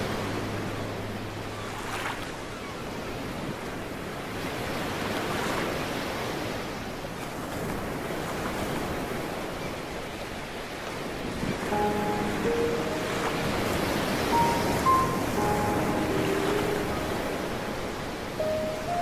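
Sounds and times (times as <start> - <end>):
waves breaking: 0.0 - 19.0.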